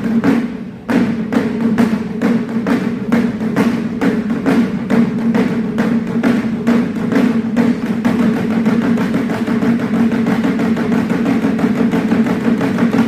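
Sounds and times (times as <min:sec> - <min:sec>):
taiko drums rhythm: 0:00.0 - 0:13.0.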